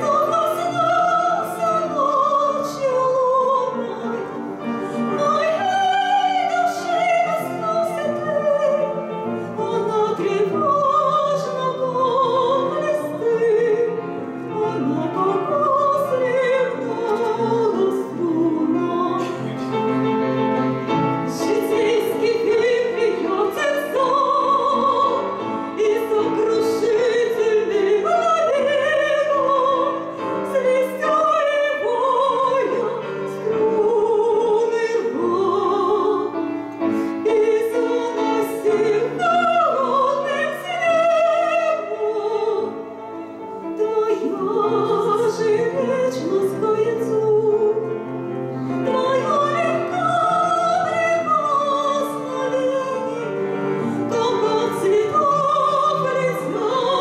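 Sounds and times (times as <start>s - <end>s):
woman singing operatically: 0.0s - 19.7s, 21.2s - 36.4s, 37.2s - 42.9s, 43.8s - 48.0s, 48.7s - 57.0s
grand piano: 0.0s - 57.0s.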